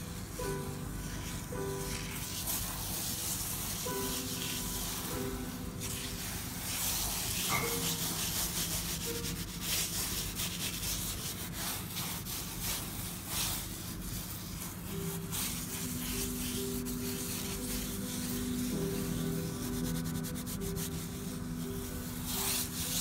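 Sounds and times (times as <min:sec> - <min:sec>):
hands rubbing pigment into paper: 0:00.0 - 0:23.0.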